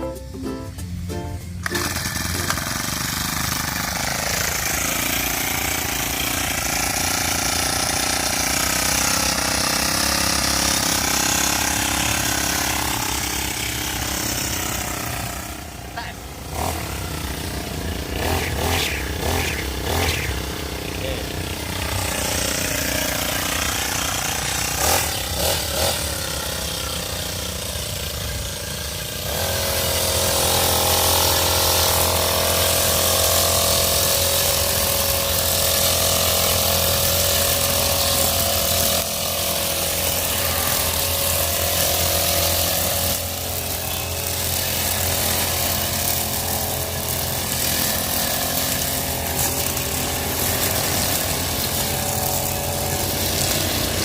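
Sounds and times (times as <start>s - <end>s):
brush cutter engine: 0.0s - 54.0s
trimmer line cutting grass: 0.1s - 54.0s.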